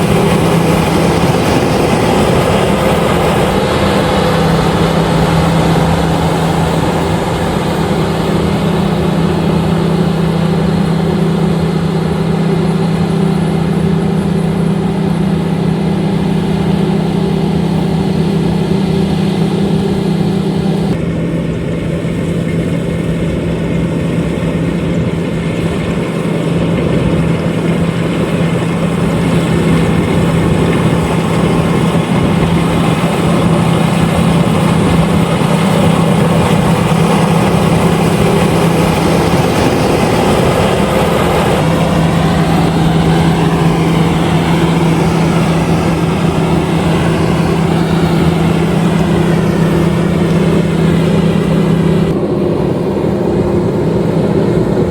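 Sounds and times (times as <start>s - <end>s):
combine harvester engine hum: 0.0s - 54.9s.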